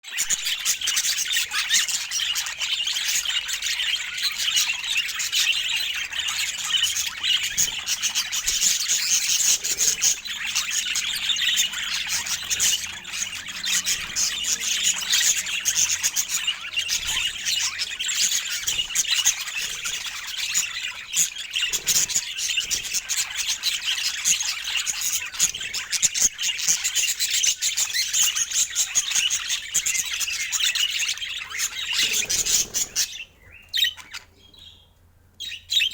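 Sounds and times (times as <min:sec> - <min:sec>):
budgerigars chirping: 0:00.0 - 0:35.9.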